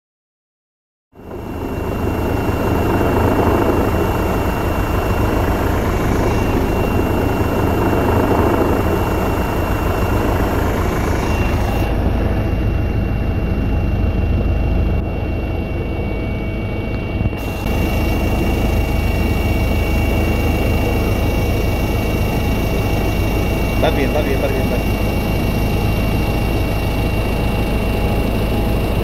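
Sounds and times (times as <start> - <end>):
helicopter rotor and engine rumble: 1.1 - 29.0
constant high whine: 1.2 - 29.0.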